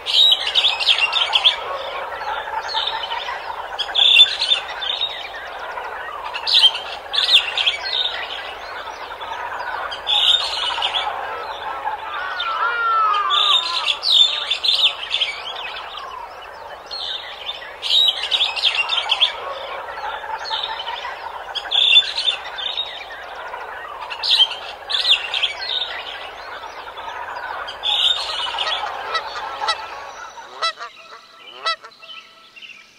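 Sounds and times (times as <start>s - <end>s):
waterfowl calling: 0.0s - 32.5s.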